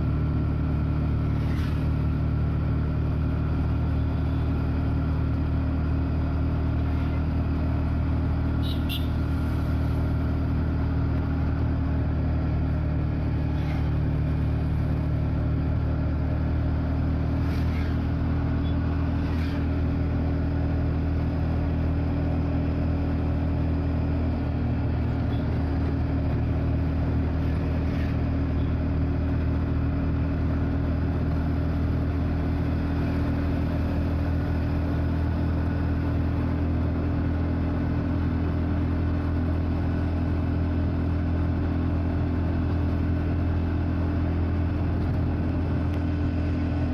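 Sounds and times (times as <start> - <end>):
road noise: 0.0 - 46.9
vehicle engine humming: 0.0 - 46.9.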